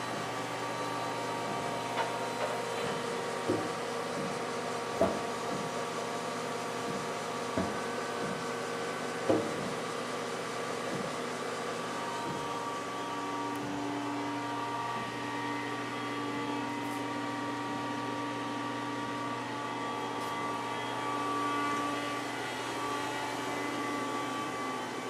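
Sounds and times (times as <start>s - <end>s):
lathe machine humming: 0.0s - 25.0s.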